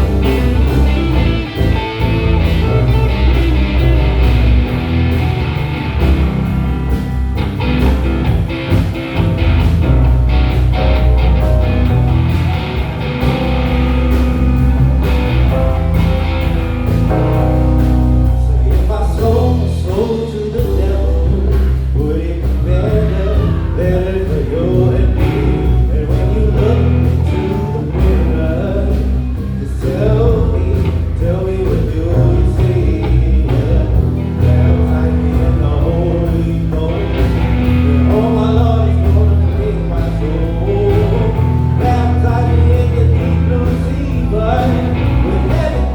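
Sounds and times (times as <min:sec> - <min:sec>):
bending lead melody: 0:00.0 - 0:45.9
live band playing: 0:00.0 - 0:45.9.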